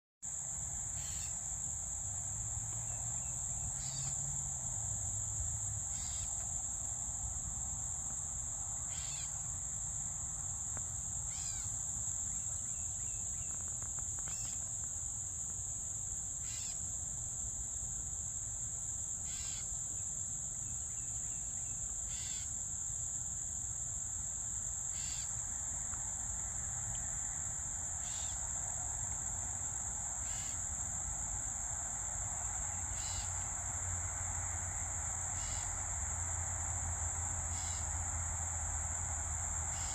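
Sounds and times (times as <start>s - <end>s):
insects droning: 0.2s - 39.9s.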